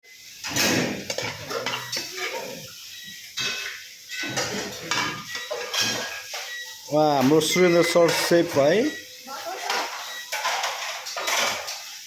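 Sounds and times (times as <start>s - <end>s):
metal pots and pans clattering: 0.4s - 2.6s, 3.4s - 8.7s, 9.6s - 12.0s.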